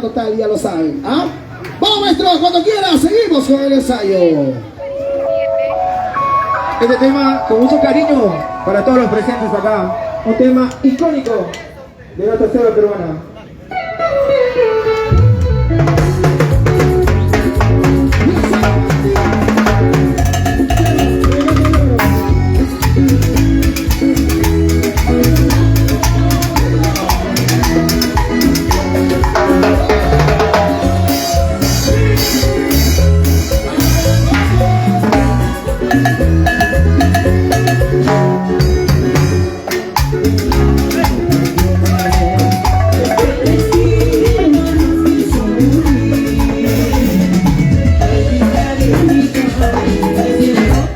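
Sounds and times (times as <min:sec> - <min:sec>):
live band playing cumbia: 0:02.0 - 0:11.8, 0:13.6 - 0:50.9.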